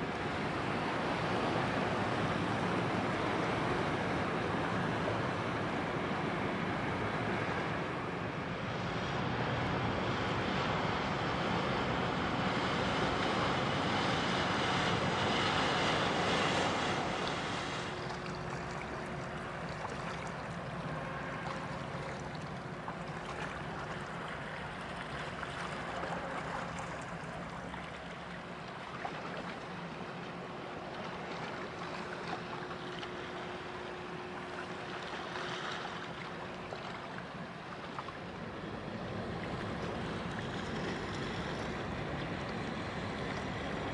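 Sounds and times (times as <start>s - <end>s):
faint low machinery hum: 0.0s - 43.9s
tugboat engine and propeller churning: 0.0s - 43.9s.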